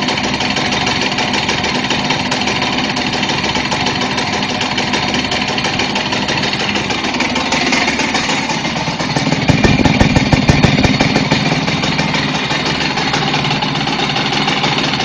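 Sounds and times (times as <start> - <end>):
irregular engine knocking: 0.0 - 15.0
two-stroke moped engine running: 0.0 - 15.0.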